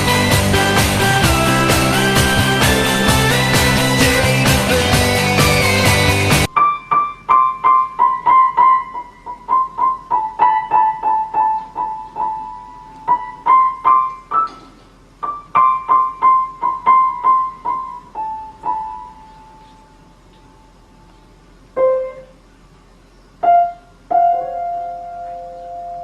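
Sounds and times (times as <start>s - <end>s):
solo piano melody: 0.0s - 21.1s, 21.7s - 22.5s, 23.4s - 26.0s.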